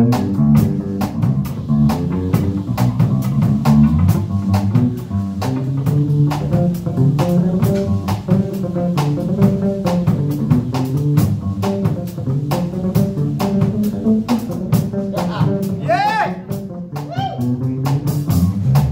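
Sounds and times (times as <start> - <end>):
drum kit beat: 0.0 - 18.9
electric guitar: 0.0 - 18.9.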